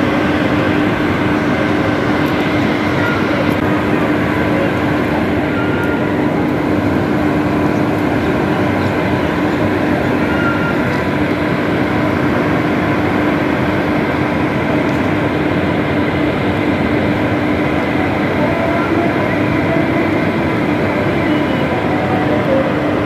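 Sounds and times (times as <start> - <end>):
electric locomotive whirring hum: 0.0 - 23.0.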